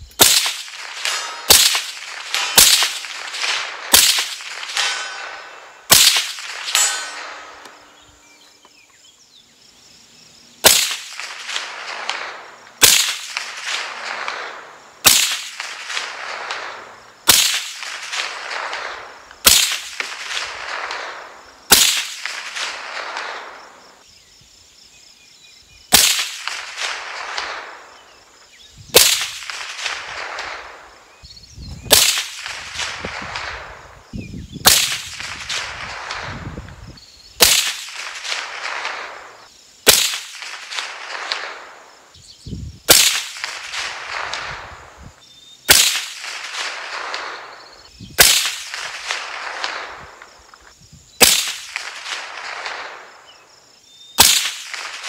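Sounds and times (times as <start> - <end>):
gunshots with rolling echo: 0.1 - 8.4, 10.6 - 24.0, 25.9 - 31.2, 31.8 - 42.1, 42.9 - 50.4, 51.2 - 53.5, 54.2 - 55.0.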